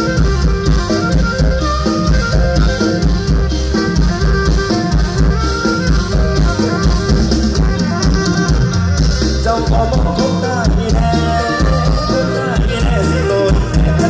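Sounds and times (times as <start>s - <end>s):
drum kit beat: 0.0s - 14.0s
live band music: 0.0s - 14.0s.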